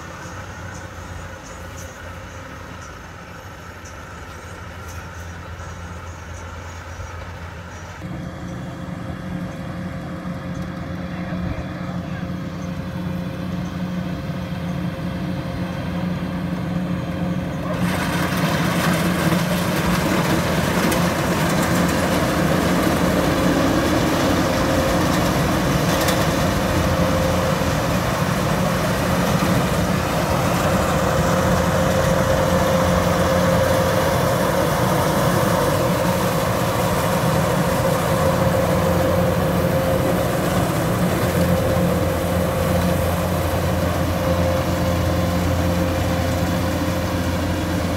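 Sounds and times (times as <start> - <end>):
combine harvester engine drone: 0.0 - 47.9
machinery whine: 0.0 - 47.9.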